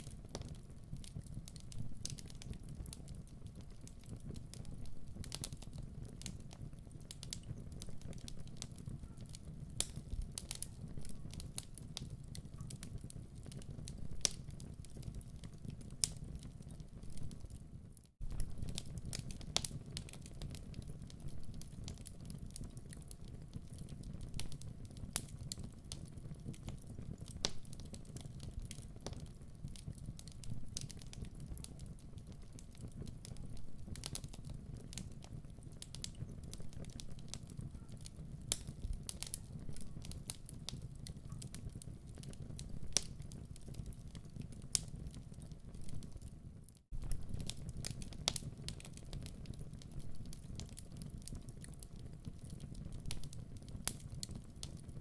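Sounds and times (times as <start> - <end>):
flames rumbling in a fireplace: 0.0 - 55.0
wood fire pops and snaps: 0.0 - 55.0.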